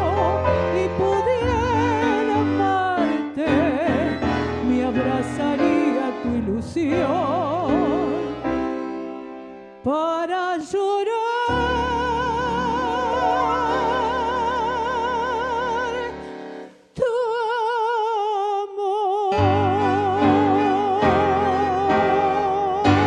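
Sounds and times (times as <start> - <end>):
woman singing with vibrato: 0.0 - 8.4, 9.9 - 16.3, 17.0 - 23.0
bandoneon and piano chords: 0.0 - 9.8, 11.5 - 16.7, 19.3 - 23.0.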